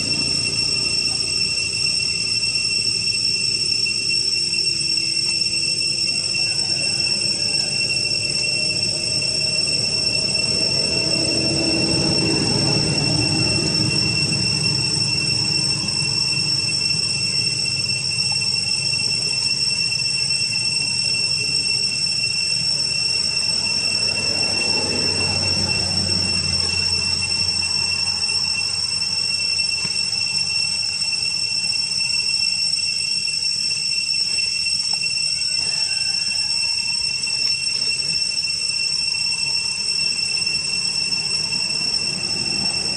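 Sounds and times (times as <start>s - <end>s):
cicadas droning: 0.0s - 42.9s.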